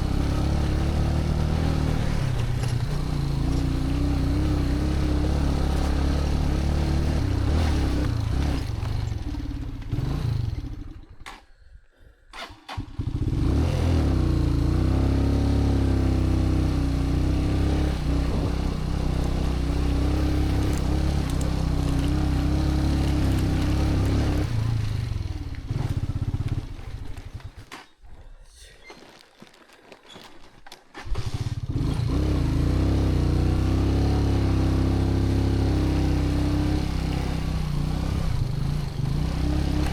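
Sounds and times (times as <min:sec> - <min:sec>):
motorcycle engine running: 0:00.0 - 0:11.3, 0:12.8 - 0:27.7, 0:31.0 - 0:39.9.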